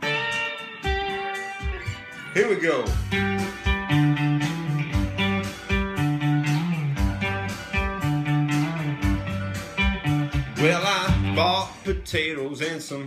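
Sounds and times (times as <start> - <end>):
acoustic guitar strumming: 0.0 - 12.6.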